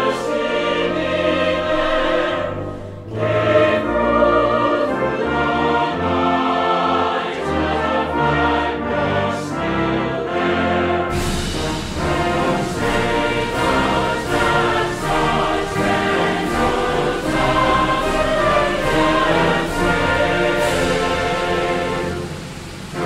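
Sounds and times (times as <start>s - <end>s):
choir singing sustained chords: 0.0s - 23.0s.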